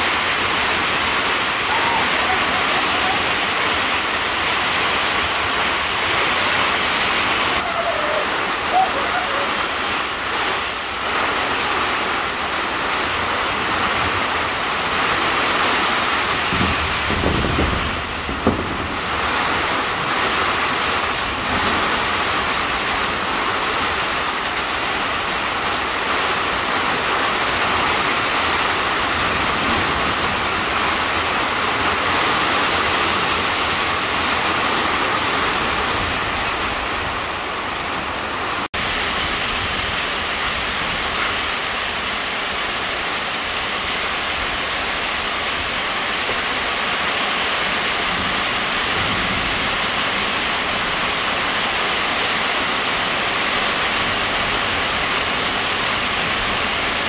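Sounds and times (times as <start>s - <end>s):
heavy rain on a metal roof: 0.0s - 57.0s
water streaming off roof: 0.0s - 57.0s.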